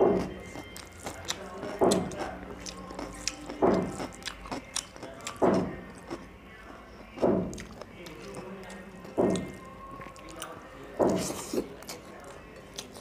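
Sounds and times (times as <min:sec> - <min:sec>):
loud wet eating sounds: 0:00.0 - 0:13.0
wet chewing sounds: 0:00.0 - 0:13.0.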